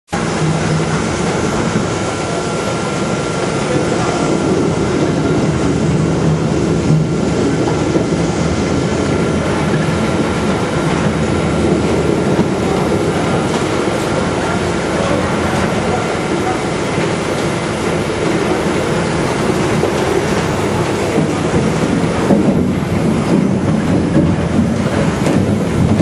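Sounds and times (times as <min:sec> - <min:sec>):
machinery running: 0:00.1 - 0:26.0
faint machine whine: 0:00.2 - 0:26.0.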